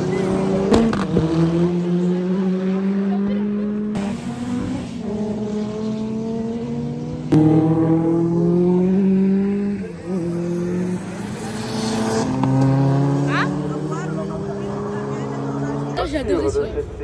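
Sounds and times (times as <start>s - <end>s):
race car engines at high revs: 0.0s - 16.8s.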